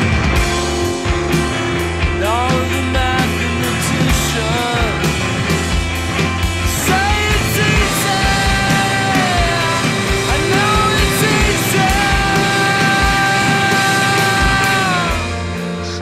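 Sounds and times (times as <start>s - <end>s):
electric guitar bent notes: 0.0s - 16.0s
instrumental rock band: 0.0s - 16.0s.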